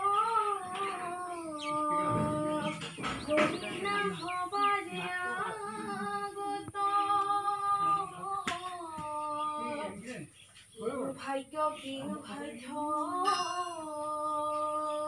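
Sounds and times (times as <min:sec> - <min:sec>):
children singing unaccompanied: 0:00.0 - 0:15.0.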